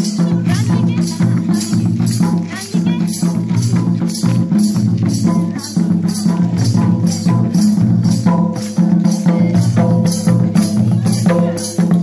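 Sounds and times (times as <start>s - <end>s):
barrel drums beating: 0.0s - 12.0s
jingling rattle: 0.0s - 12.0s.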